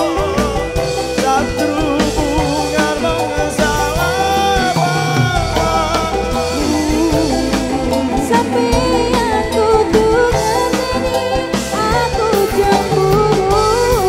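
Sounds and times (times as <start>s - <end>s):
drum kit: 0.0s - 14.0s
electric guitar melody: 0.0s - 14.0s
hand drum: 0.0s - 14.0s.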